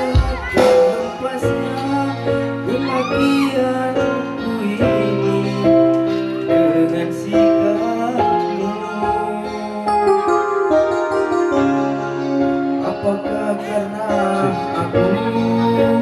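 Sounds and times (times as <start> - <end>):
held keyboard chords: 0.0 - 16.0
person singing: 0.0 - 16.0.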